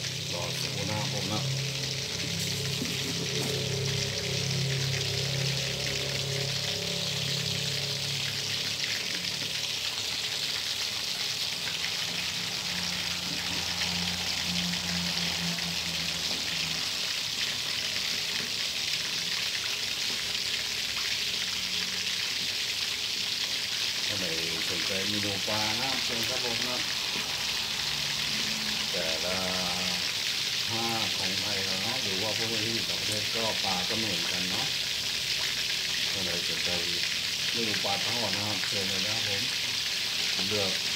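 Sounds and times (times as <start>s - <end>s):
fish sizzling in hot oil: 0.0s - 40.9s.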